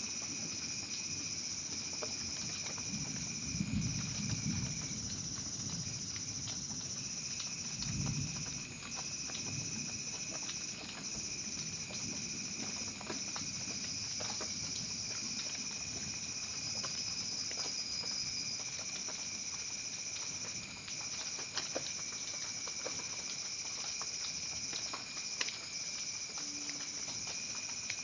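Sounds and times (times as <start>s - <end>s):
raindrops pattering: 0.0s - 28.0s.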